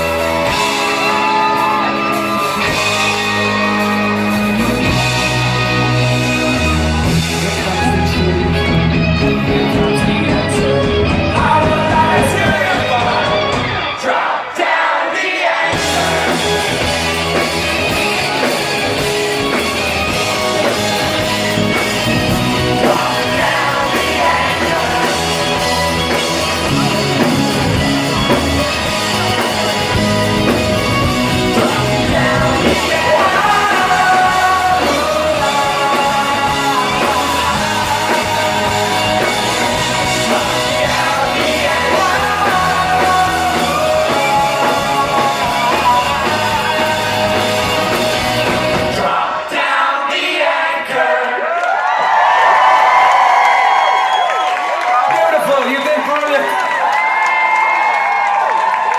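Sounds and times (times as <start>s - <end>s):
rock band playing live: 0.0s - 14.5s, 15.6s - 49.5s
lead vocal singing: 0.0s - 52.1s.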